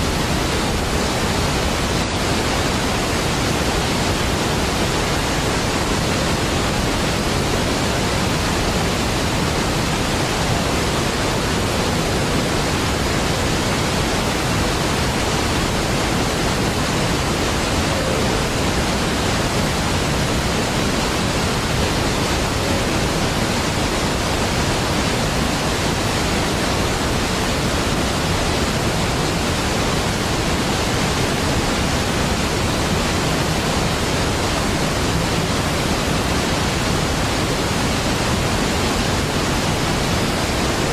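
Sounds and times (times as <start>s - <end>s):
large waterfall rushing: 0.0s - 40.9s.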